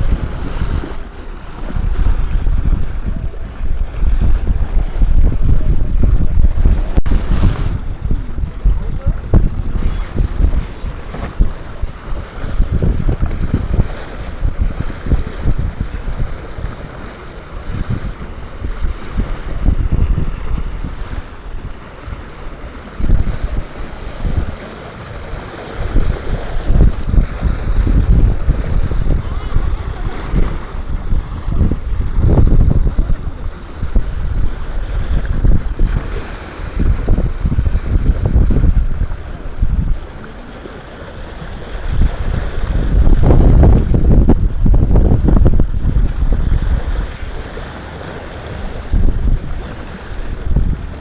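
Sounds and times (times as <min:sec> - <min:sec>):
water rushing past hull: 0:00.0 - 0:51.0
wind buffeting microphone: 0:00.0 - 0:51.0.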